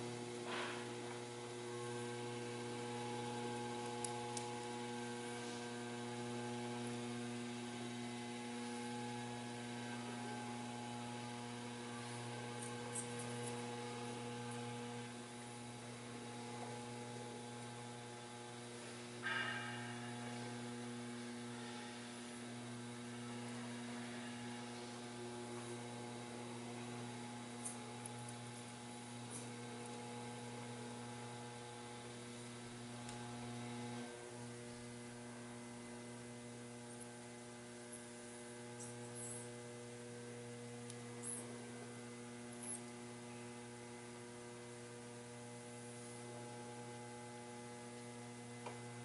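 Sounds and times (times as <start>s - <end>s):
electric motor hum: 0.0s - 49.0s.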